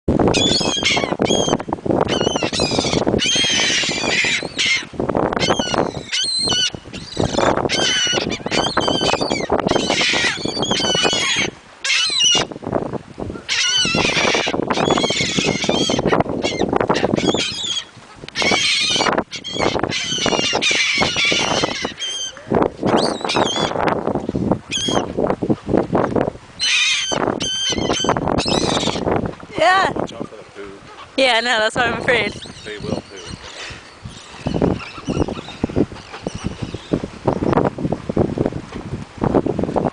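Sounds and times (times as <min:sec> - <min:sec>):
seagulls squawking: 0:00.3 - 0:12.5, 0:13.4 - 0:23.8, 0:24.7 - 0:25.1, 0:26.6 - 0:29.8, 0:30.8 - 0:37.5.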